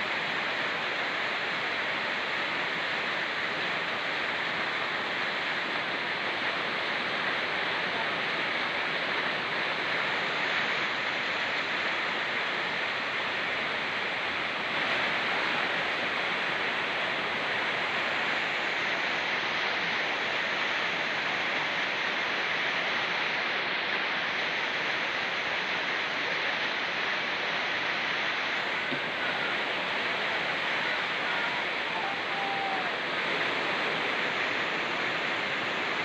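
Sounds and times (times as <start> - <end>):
fast-flowing stream: 0.0 - 36.0
rain falling in forest: 0.0 - 36.0.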